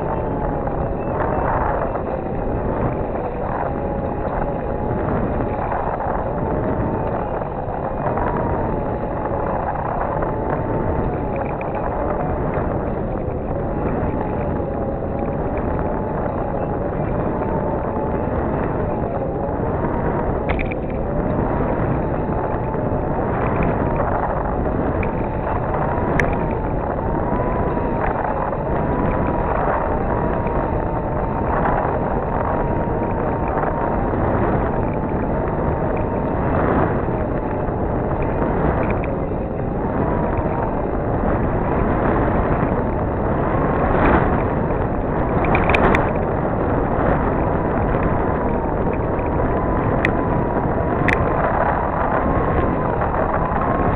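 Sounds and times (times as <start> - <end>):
faint wavering whine: 0.0 - 53.9
wind buffeting microphone: 0.0 - 53.9.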